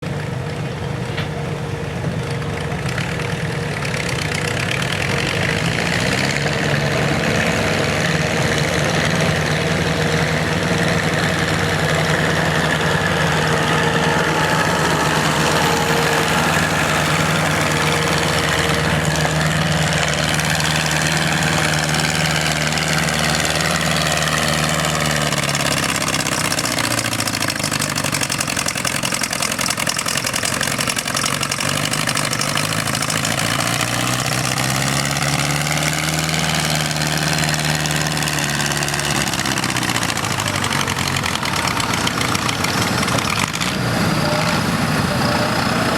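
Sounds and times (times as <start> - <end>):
tractor engine running hard: 0.0 - 45.9.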